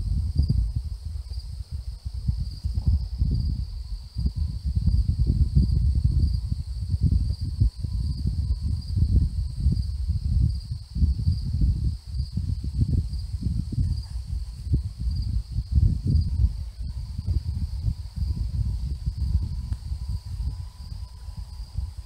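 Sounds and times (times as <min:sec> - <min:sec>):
crickets chirping: 0:00.0 - 0:22.0
wind gusting on microphone: 0:00.0 - 0:22.0.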